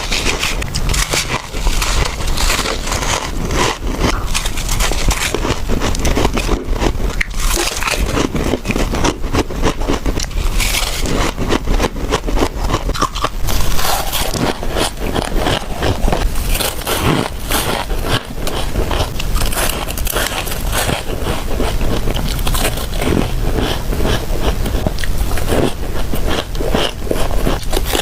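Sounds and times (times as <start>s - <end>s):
frost ice crunching and scraping: 0.0s - 28.0s.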